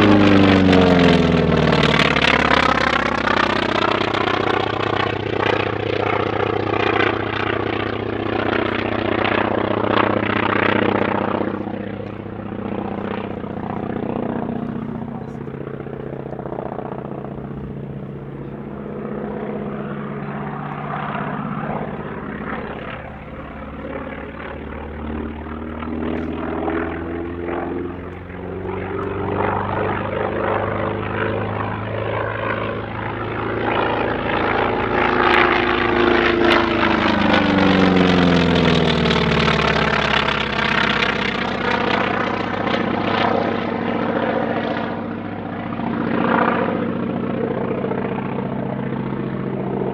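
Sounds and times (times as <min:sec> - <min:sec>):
propeller aircraft flying past: 0:00.0 - 0:49.9.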